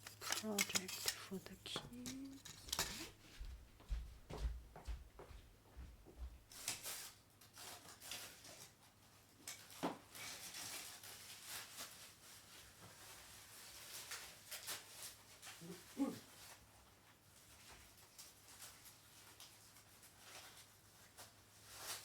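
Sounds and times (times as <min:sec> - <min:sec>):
packing material crinkling: 0:00.0 - 0:03.2, 0:06.5 - 0:22.0.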